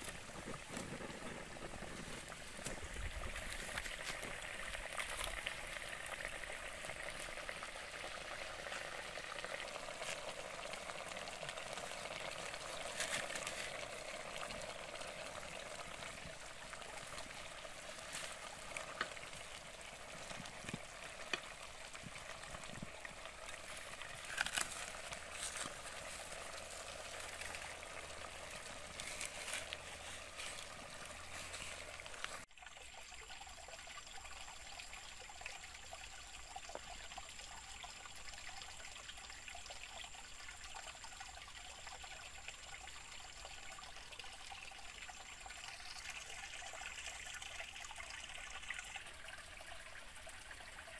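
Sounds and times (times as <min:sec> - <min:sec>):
stew boiling and bubbling: 0:00.0 - 0:50.9.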